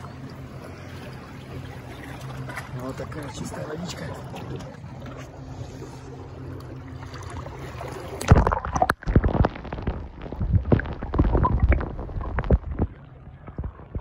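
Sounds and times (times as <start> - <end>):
sea ambience: 0.0 - 14.0
underwater gurgling and sloshing: 0.0 - 14.0.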